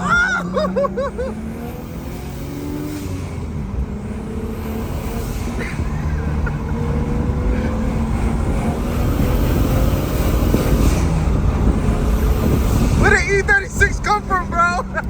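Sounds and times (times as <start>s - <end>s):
car engine accelerating: 0.0s - 15.0s
road noise: 0.0s - 15.0s.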